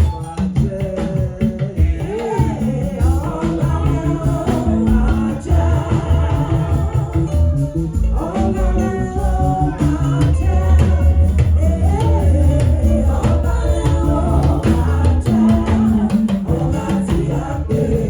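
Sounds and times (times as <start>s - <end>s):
live band with heavy bass: 0.0s - 18.0s
voices singing gospel: 0.0s - 18.0s.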